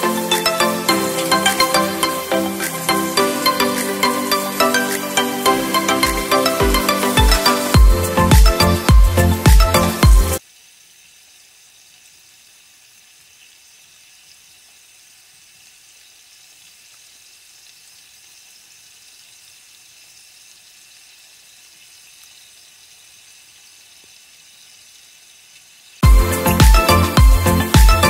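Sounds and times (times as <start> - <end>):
food sizzling in oil: 0.0 - 9.4, 10.4 - 27.7.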